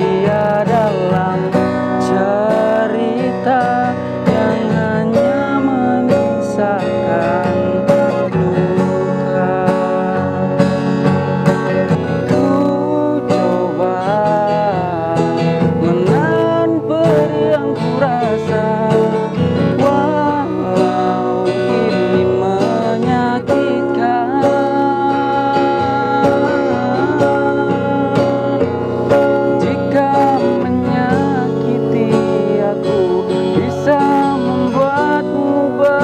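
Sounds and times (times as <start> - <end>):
acoustic guitar strummed: 0.0 - 36.0
person singing: 0.0 - 36.0.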